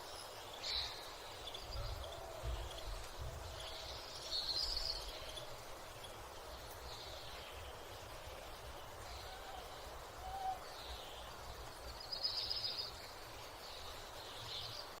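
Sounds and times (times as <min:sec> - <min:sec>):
background hiss: 0:00.0 - 0:15.0
birds chirping: 0:00.0 - 0:15.0.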